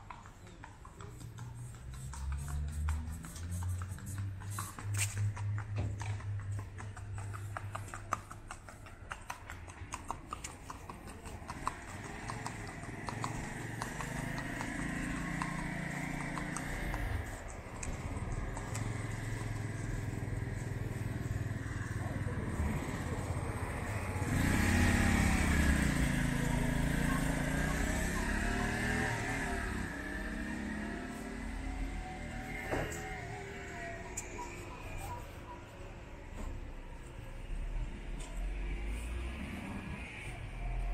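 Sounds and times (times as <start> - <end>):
horse hooves on pavement: 0.0 - 35.1
motor vehicles passing: 0.0 - 40.9
motorcycle passing: 0.1 - 40.9.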